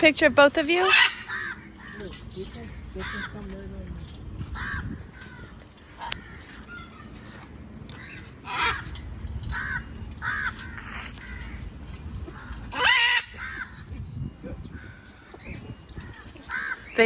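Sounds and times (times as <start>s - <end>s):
birds squawking: 0.1s - 17.0s.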